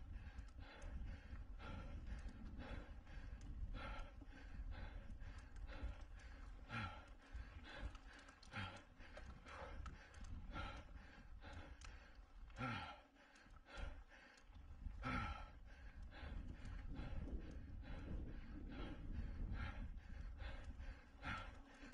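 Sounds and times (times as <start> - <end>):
person breathing hard: 0.0 - 21.9.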